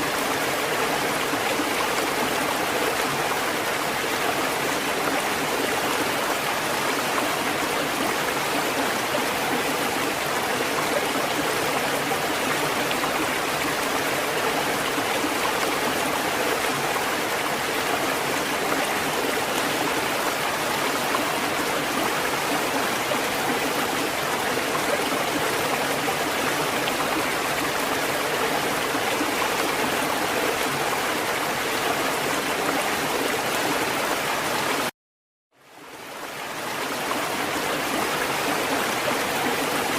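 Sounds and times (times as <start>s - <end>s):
rushing water: 0.0s - 34.9s, 35.6s - 39.9s.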